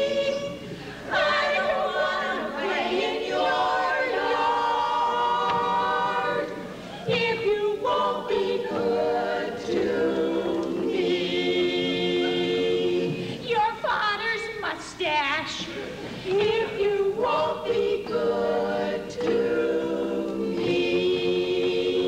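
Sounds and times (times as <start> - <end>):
choir singing held chords: 0.0 - 13.4, 16.3 - 22.0.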